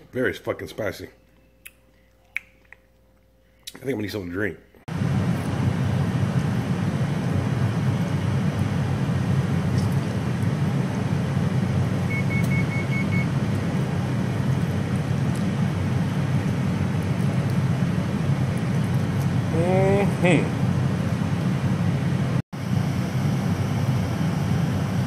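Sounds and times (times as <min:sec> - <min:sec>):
machinery humming: 0:04.9 - 0:25.0.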